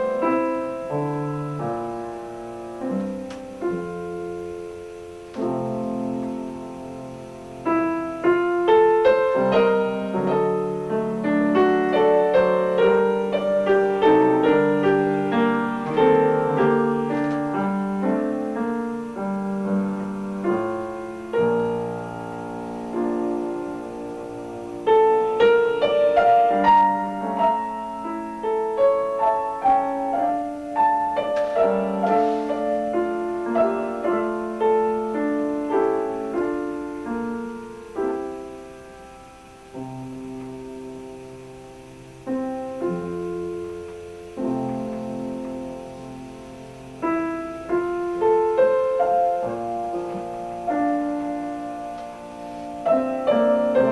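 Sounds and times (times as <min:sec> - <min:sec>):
piano piece: 0:00.0 - 0:53.9.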